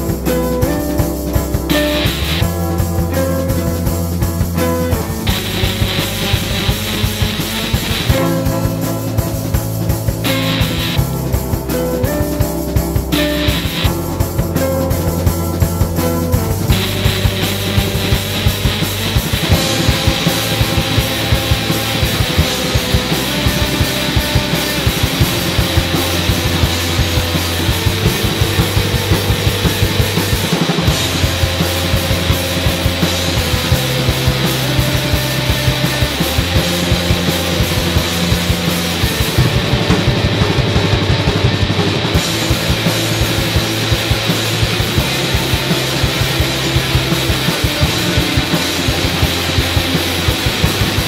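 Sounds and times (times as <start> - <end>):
rock music: 0.0 - 51.0.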